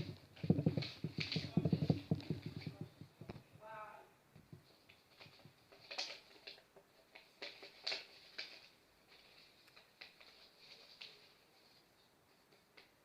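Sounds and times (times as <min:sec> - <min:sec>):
paper rustling and crinkling: 0:00.0 - 0:03.5, 0:04.4 - 0:13.0.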